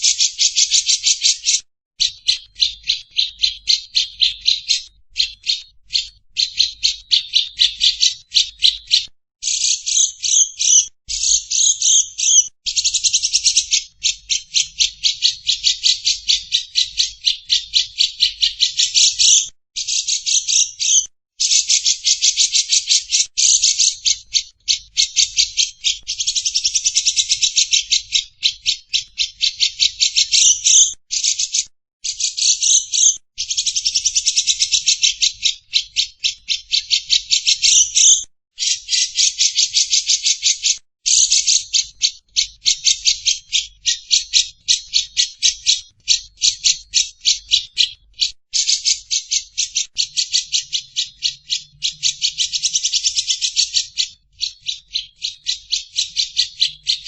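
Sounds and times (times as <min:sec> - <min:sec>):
buzzy rattling bird chatter: 0:00.0 - 0:48.0.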